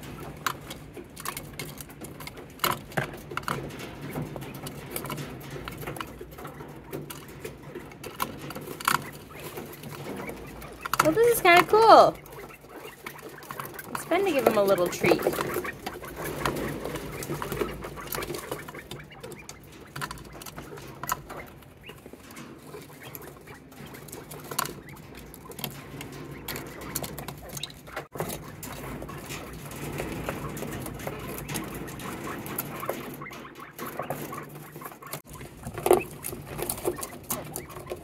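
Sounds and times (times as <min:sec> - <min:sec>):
quail pecking on plastic: 0:00.0 - 0:38.0
soft squeaky chirps: 0:03.5 - 0:38.0.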